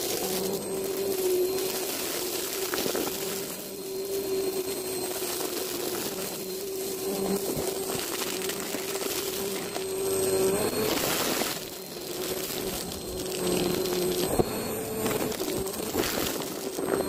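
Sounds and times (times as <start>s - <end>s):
debris crackling in vacuum: 0.0s - 17.0s
vacuum cleaner running: 0.0s - 17.0s.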